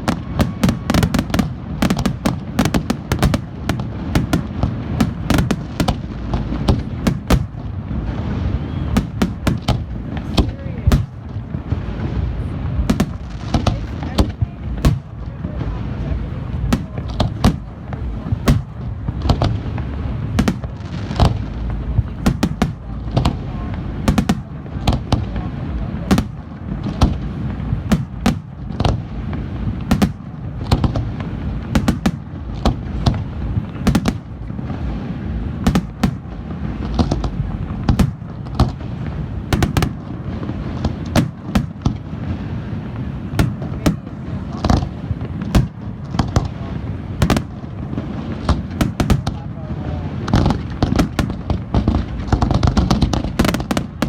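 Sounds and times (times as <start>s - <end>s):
fireworks bangs and crackling: 0.0s - 54.0s
low rolling rumble: 0.0s - 54.0s.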